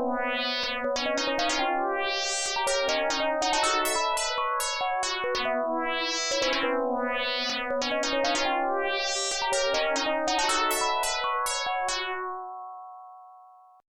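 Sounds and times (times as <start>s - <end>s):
electric piano phone ringtone: 0.0s - 13.6s.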